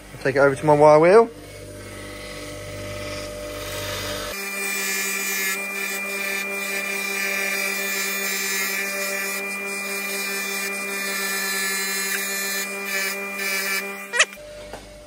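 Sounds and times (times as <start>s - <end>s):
grinder motor hum: 0.0s - 15.0s.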